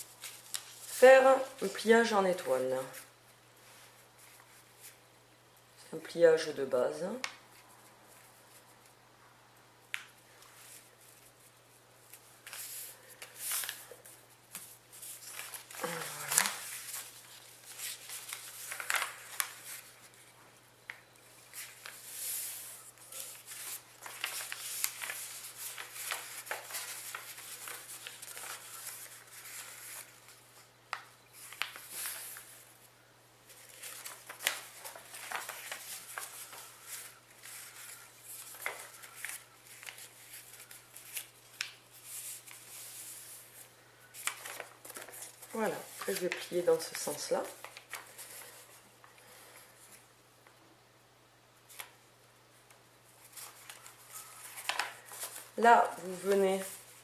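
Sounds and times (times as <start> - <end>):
paper rustling and crinkling: 0.0 - 5.0, 10.3 - 32.9, 33.5 - 50.1, 51.7 - 52.0, 53.2 - 57.0
faint steady hum: 0.0 - 57.0.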